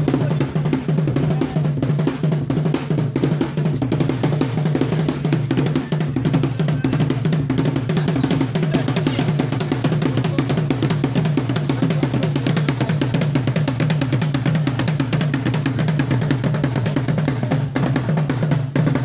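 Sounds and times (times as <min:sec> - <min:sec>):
drum ensemble playing: 0:00.0 - 0:19.0.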